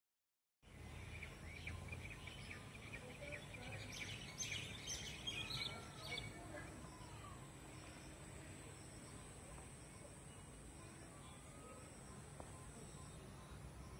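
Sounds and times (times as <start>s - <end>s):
small birds chirping: 0.6s - 13.9s.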